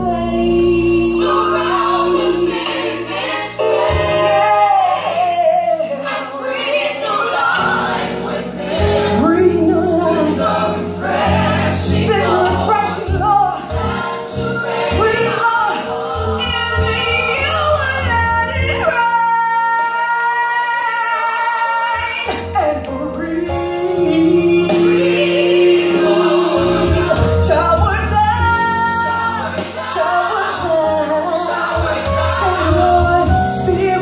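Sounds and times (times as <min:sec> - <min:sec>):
gospel worship singing: 0:00.0 - 0:34.0.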